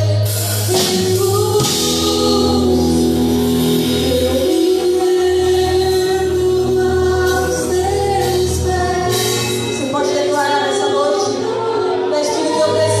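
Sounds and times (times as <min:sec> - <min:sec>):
band with bass and drums: 0:00.0 - 0:13.0.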